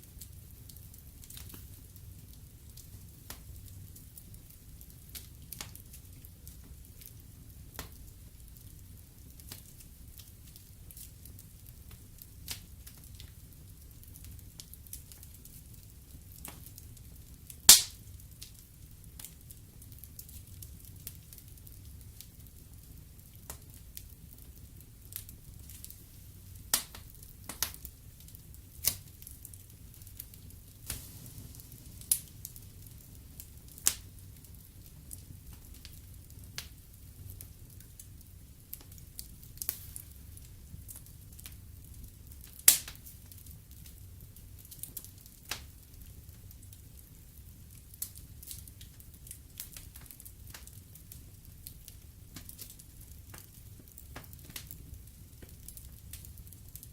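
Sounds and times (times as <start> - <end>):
low steady fire rumble: 0.0 - 56.9
wood fire crackling and popping: 0.0 - 56.9.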